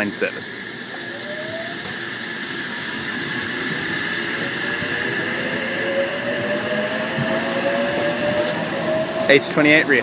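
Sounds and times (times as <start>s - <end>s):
electric train motor whine: 0.0s - 10.0s.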